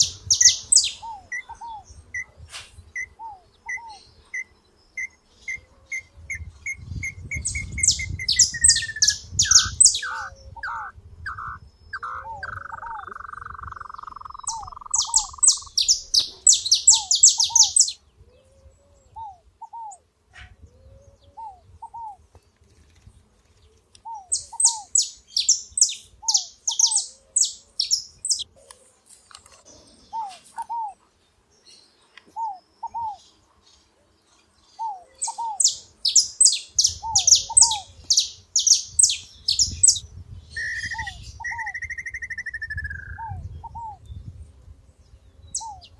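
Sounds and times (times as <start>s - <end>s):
finches singing: 0.0s - 20.0s, 23.2s - 28.5s, 29.6s - 45.9s.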